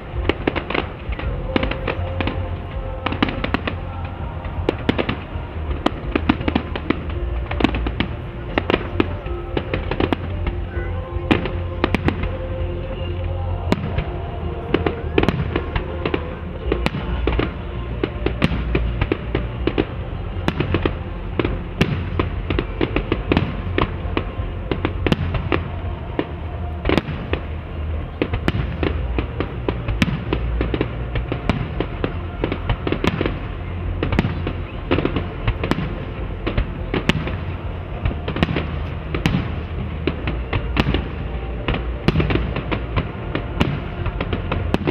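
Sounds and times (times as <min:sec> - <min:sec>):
fireworks bursting with sharp bangs: 0:00.0 - 0:44.9
steady low rumble: 0:00.0 - 0:44.9.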